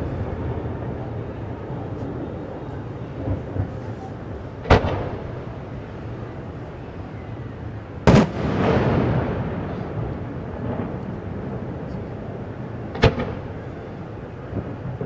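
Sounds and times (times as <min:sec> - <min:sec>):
fireworks banging: 0:00.0 - 0:06.8, 0:07.9 - 0:15.0
rumbling crackling firework tail: 0:00.0 - 0:15.0.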